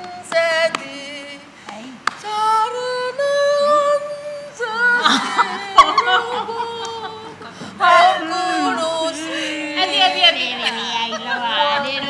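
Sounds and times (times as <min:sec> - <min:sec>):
women singing wailing notes: 0:00.0 - 0:12.0.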